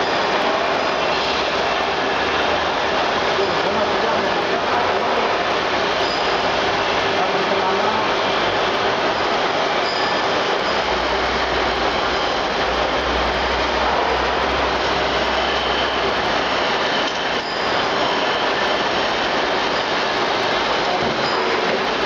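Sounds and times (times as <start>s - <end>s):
rice milling machine running: 0.0s - 22.0s.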